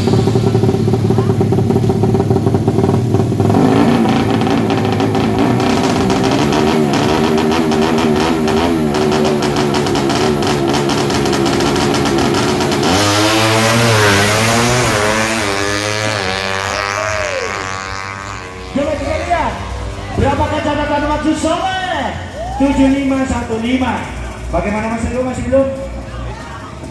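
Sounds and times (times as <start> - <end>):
motorcycle engine at high revs: 0.0 - 26.1.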